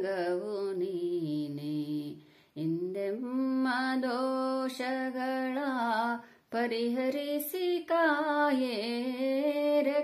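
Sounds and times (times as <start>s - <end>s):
person singing devotional song: 0.0s - 10.0s.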